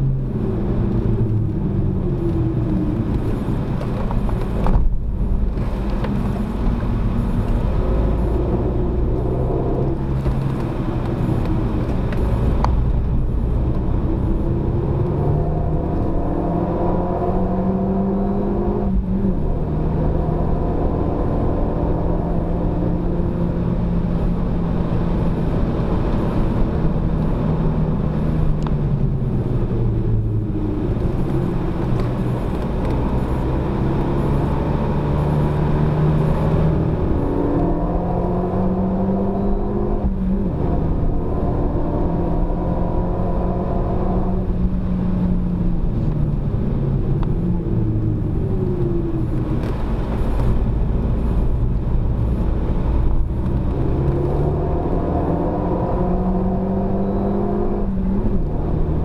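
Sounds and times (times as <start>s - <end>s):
car engine revving: 0.0s - 59.0s
road and tyre rumble: 0.0s - 59.0s.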